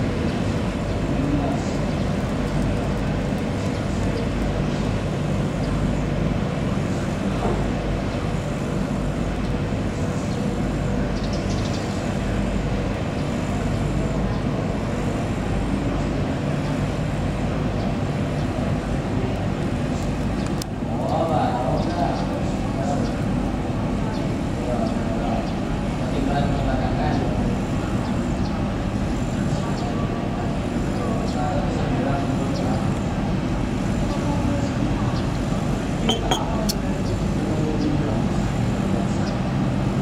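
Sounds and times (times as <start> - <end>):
boat engine humming: 0.0 - 26.2, 27.3 - 40.0.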